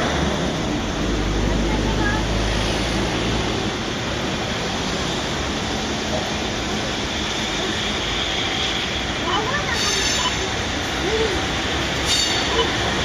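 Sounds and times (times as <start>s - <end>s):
freight train rolling on rails: 0.0s - 13.0s.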